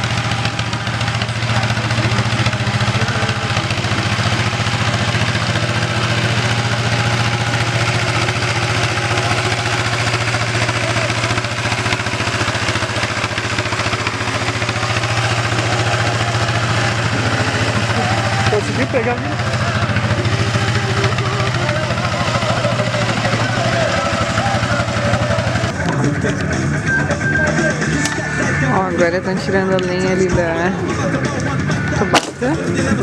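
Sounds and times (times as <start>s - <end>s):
diesel engine chugging: 0.0s - 33.0s.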